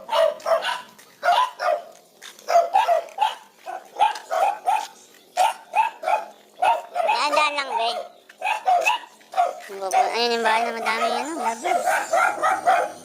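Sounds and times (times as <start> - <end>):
dog barking: 0.0 - 1.9, 2.5 - 13.0.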